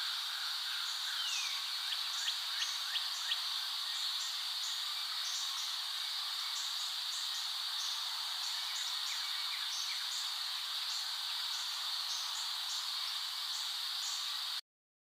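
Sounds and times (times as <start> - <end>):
insects buzzing: 0.0 - 14.6.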